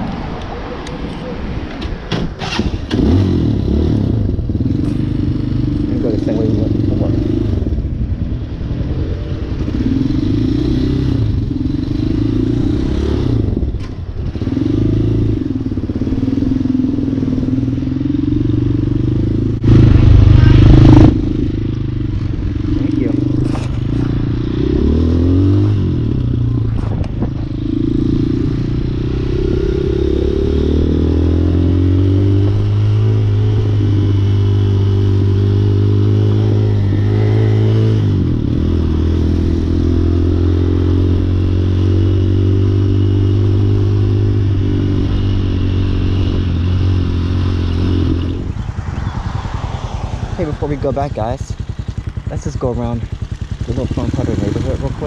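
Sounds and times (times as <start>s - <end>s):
motorcycle engine running: 2.4s - 55.0s.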